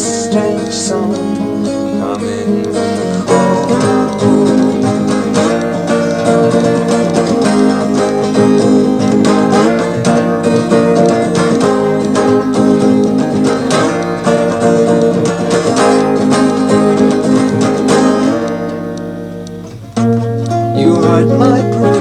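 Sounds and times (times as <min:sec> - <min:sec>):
acoustic guitar strummed: 0:00.0 - 0:22.0.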